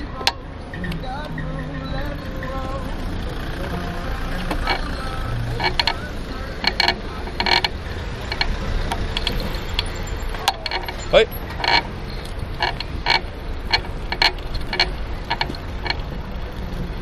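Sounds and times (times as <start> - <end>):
bicycle clicking and rattling: 0.0 - 17.0
road and wind rumble: 0.0 - 17.0.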